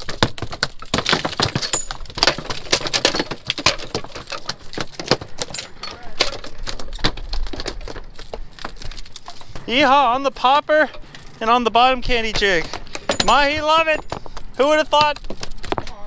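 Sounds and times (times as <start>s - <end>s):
rapid clattering and knocking: 0.0s - 10.0s, 11.9s - 15.9s.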